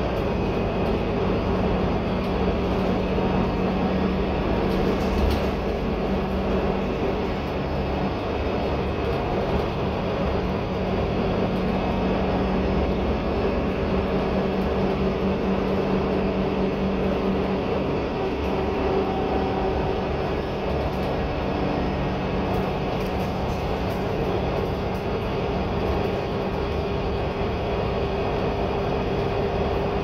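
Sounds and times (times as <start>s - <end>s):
bus diesel engine droning: 0.0s - 30.0s.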